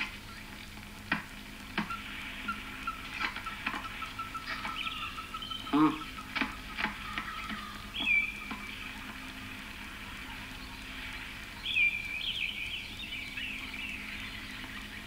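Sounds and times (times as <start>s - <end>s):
birds chirping: 0.0s - 15.0s
steady high hiss: 0.0s - 15.0s.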